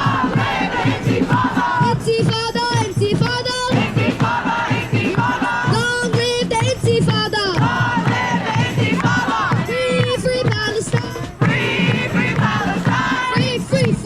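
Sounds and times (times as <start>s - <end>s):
music with singing voices: 0.0s - 14.0s.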